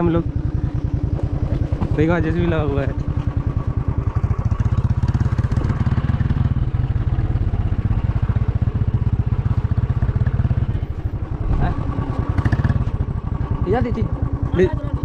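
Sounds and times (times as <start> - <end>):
engine running with pulsing beat: 0.0 - 15.0.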